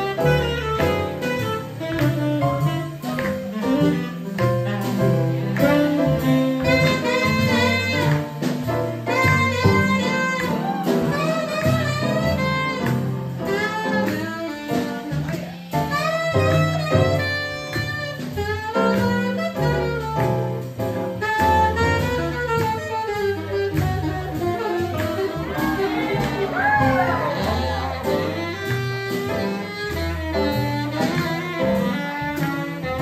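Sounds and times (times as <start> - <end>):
swing jazz band playing: 0.0 - 33.0.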